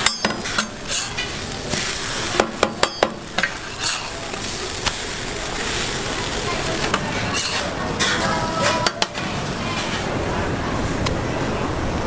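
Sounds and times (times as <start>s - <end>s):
pancake sizzling on a griddle: 0.0s - 10.1s.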